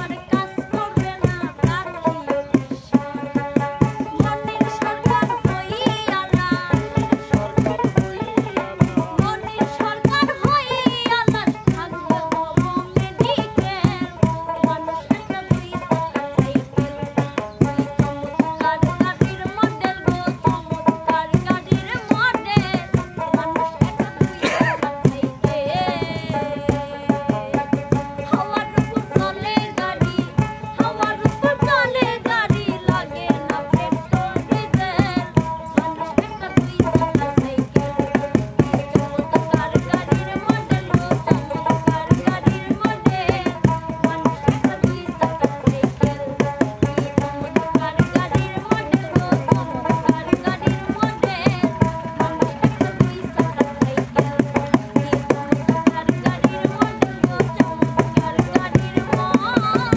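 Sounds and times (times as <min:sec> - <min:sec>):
folk song melody: 0:00.0 - 0:59.9
hand-drum beat: 0:00.0 - 0:59.9.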